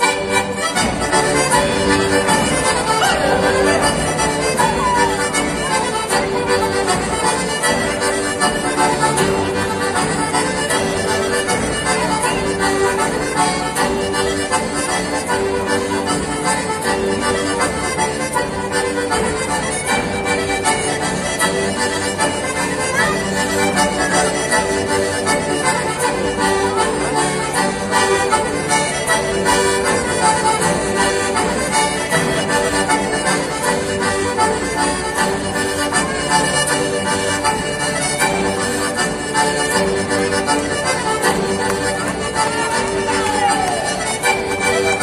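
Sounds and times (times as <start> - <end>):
accordion folk dance tune: 0.0 - 45.0.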